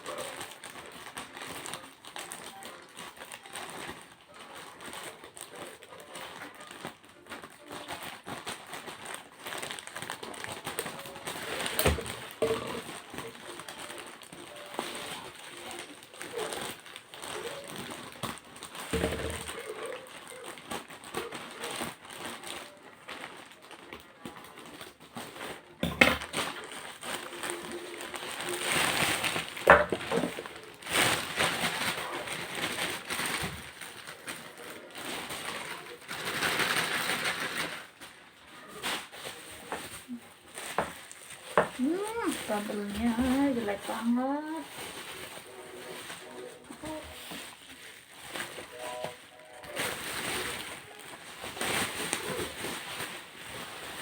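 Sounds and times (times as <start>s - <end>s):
packaging rustling: 0.0s - 54.0s.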